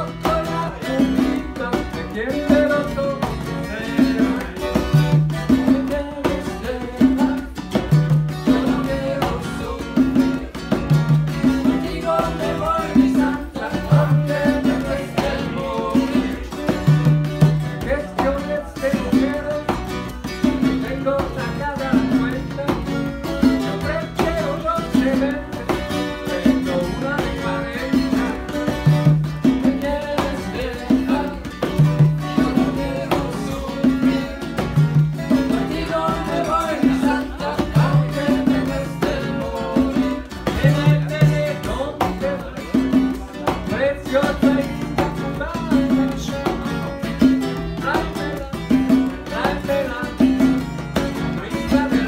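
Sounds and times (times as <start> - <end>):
congas: 0.0 - 52.0
nylon-string guitar: 0.0 - 52.0
tres guitar: 0.0 - 52.0.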